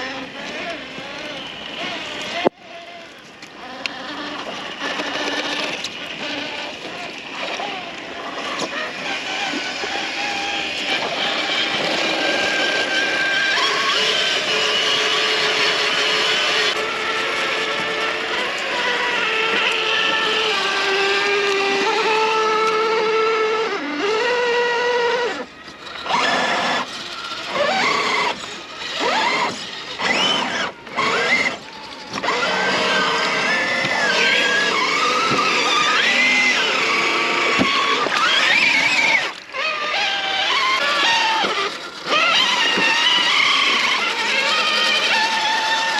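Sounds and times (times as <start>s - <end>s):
electric motor whining: 0.0s - 45.9s.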